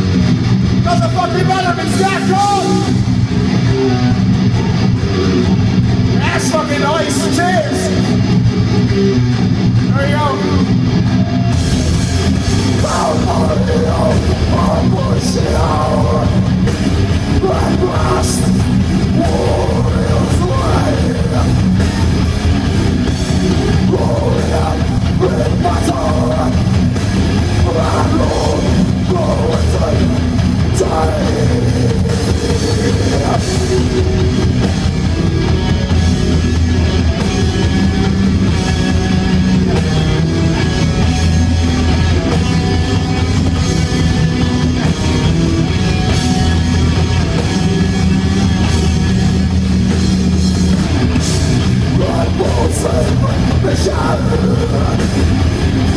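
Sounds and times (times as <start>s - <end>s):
bass guitar: 0.0s - 55.9s
drums: 0.0s - 55.9s
electric guitars: 0.0s - 55.9s.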